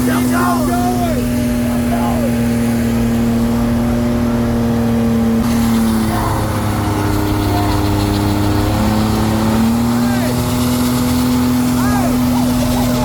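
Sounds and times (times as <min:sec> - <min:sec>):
engine at high revs: 0:00.0 - 0:13.0.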